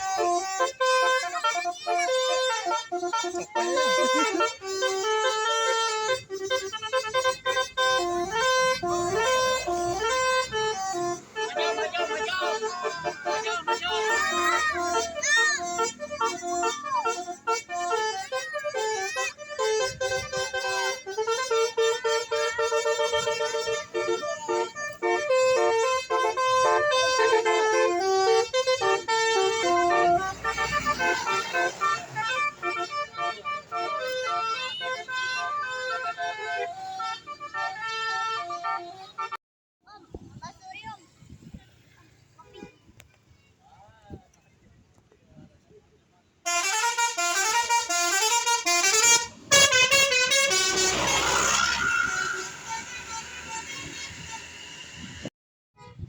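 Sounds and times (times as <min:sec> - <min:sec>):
bus musical horn tune: 0:00.0 - 0:39.4, 0:46.4 - 0:56.0.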